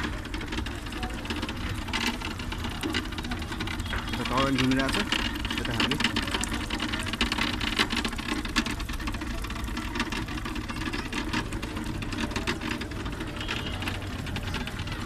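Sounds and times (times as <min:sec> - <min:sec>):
fast irregular clicking clatter: 0:00.0 - 0:15.0.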